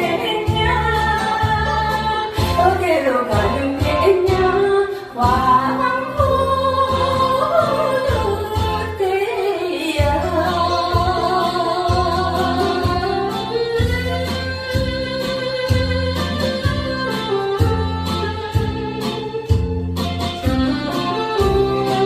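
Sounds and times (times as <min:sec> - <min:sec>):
backing track with bass beat: 0:00.0 - 0:09.0, 0:10.0 - 0:22.0
woman singing: 0:00.0 - 0:18.4.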